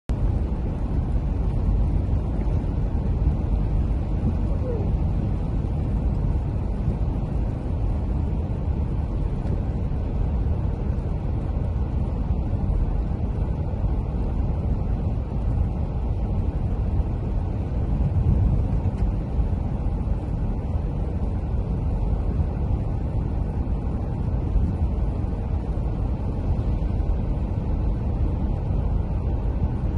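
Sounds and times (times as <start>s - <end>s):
deep rumble: 0.0s - 29.9s.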